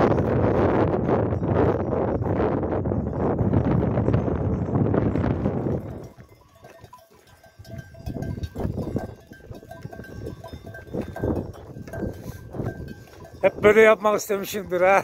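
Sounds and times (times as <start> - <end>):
animal bells clinking: 0.0 - 15.0
wind buffeting the microphone: 0.0 - 15.0.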